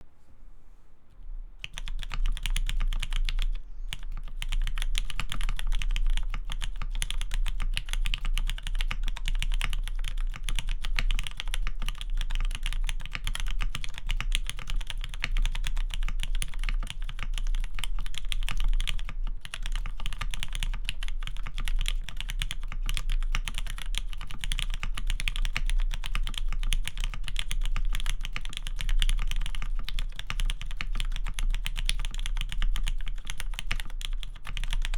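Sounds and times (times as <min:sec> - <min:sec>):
fast typing on mechanical keyboard: 0:01.6 - 0:34.9.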